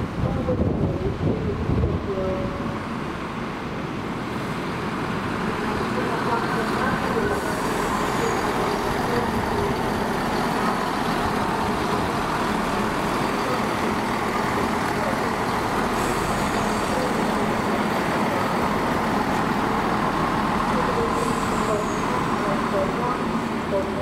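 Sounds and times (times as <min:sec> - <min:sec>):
train engine rumbling: 0:00.0 - 0:24.0.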